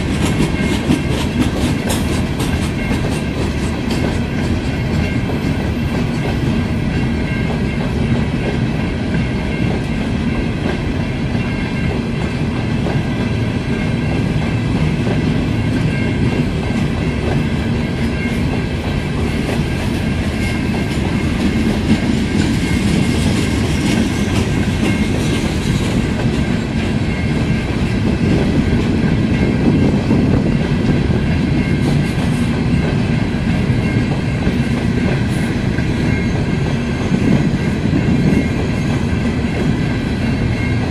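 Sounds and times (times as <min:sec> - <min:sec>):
freight train wheels clattering: 0:00.0 - 0:40.9.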